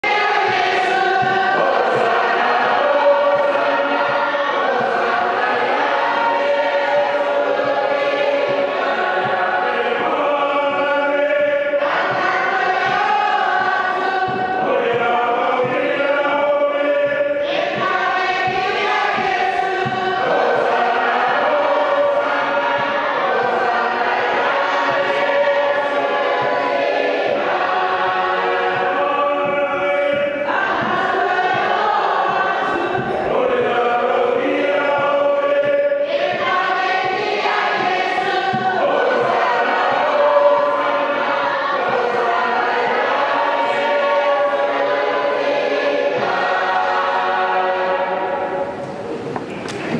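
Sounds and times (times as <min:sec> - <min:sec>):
congregation singing a hymn: 0:00.0 - 0:49.9.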